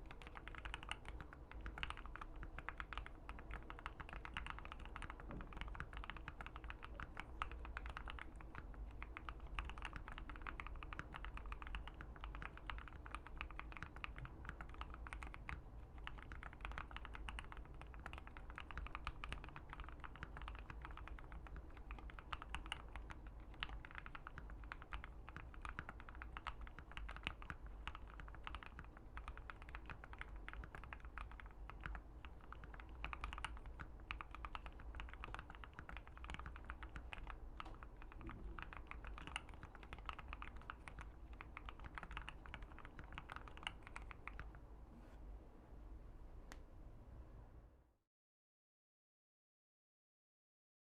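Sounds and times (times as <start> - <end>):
mechanical keyboard typing: 0.0 - 44.6.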